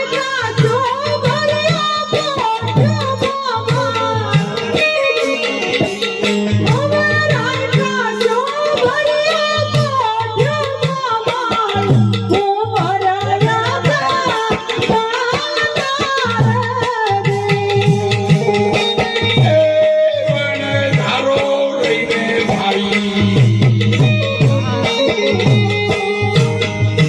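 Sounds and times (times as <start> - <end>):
person singing devotional melody: 0.0 - 27.0
tabla drumming: 0.0 - 27.0.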